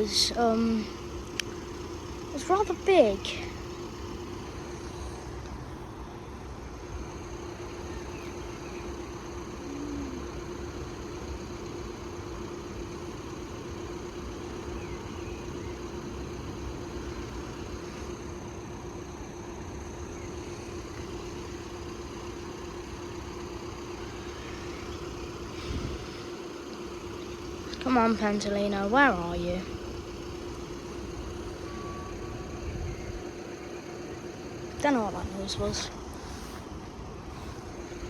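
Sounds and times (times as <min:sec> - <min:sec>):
mid-pitched hum: 0:00.0 - 0:38.0
vehicles idling: 0:00.0 - 0:38.0.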